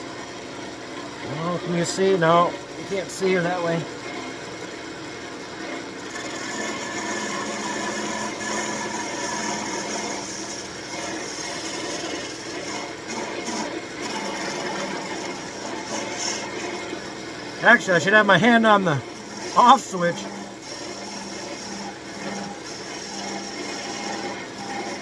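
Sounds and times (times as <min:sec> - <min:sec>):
wood lathe scraping hiss: 0:01.2 - 0:04.4, 0:06.0 - 0:25.0.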